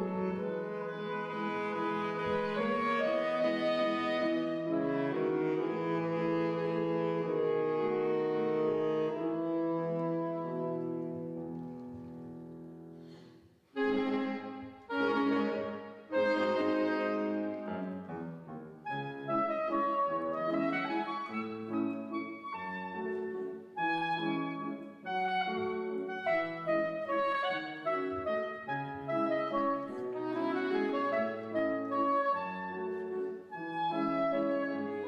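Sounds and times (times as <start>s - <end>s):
saxophones playing waltz melody: 0.0s - 12.0s, 13.7s - 35.0s
piano accompaniment: 0.0s - 35.0s.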